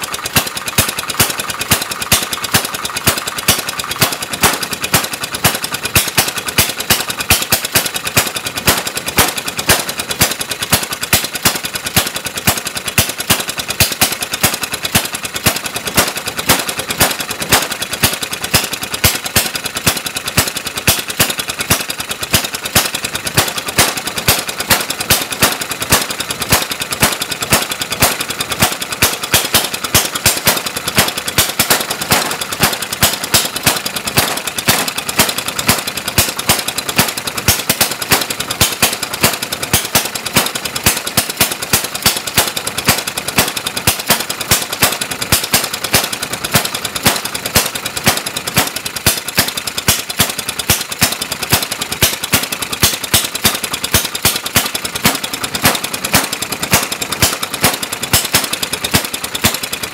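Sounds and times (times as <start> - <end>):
engine firing sharp pops: 0.0 - 59.9.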